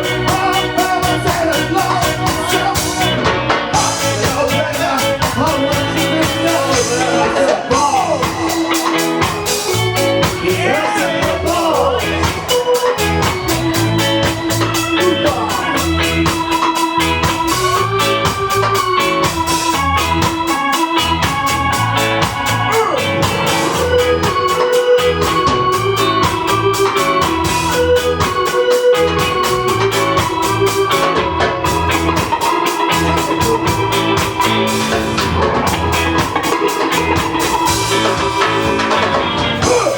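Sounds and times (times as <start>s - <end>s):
live ska band playing: 0.0s - 39.9s
organ: 0.0s - 39.9s.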